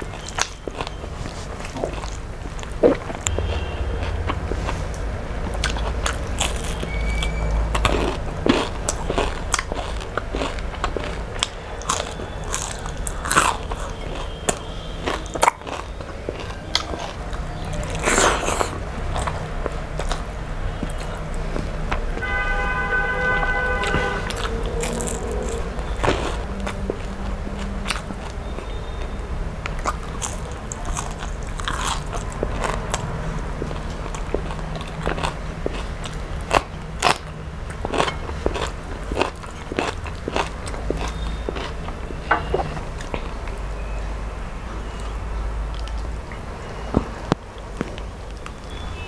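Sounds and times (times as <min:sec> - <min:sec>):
chewing and biting food: 0:00.0 - 0:22.2, 0:23.8 - 0:44.1, 0:44.8 - 0:46.1
food crunching: 0:00.0 - 0:22.3, 0:23.8 - 0:44.0, 0:44.8 - 0:46.4.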